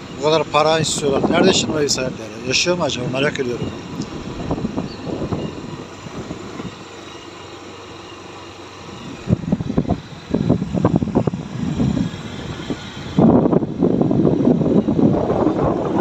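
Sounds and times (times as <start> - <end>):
wind buffeting microphone: 0.0 - 7.1, 8.8 - 16.0.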